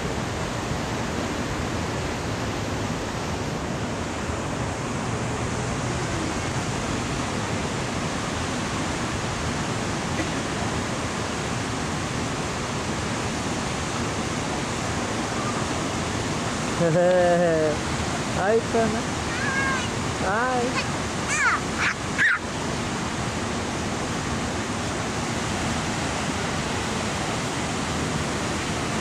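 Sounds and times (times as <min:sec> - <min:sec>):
water cascading down rock waterfall: 0:00.0 - 0:29.0.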